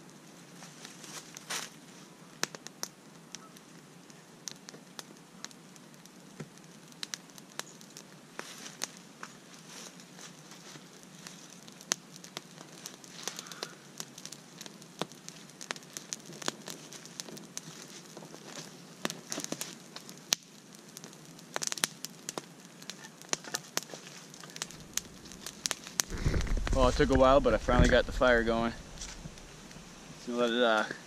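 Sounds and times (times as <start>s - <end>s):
campfire crackling: 0.0s - 31.0s
faint steady hiss: 0.0s - 31.0s
fire pops: 0.5s - 31.0s.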